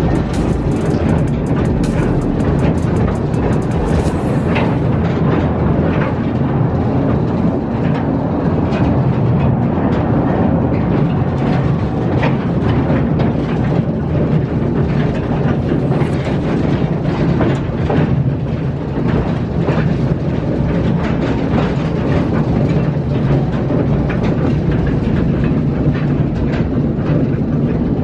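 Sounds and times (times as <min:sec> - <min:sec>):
rail car wheels on rails: 0:00.0 - 0:28.0.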